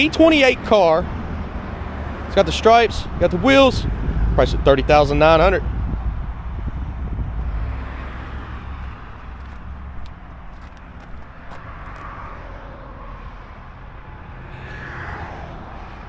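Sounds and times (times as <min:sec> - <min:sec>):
distant road traffic rumble: 0:00.0 - 0:16.0.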